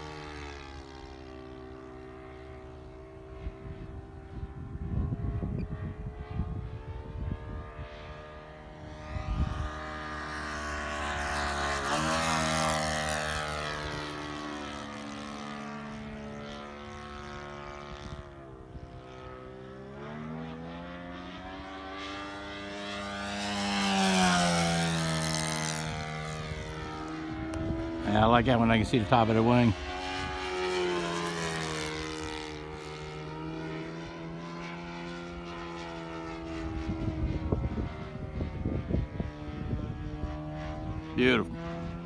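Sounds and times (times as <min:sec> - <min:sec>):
model airplane engine running: 0:00.0 - 0:42.0.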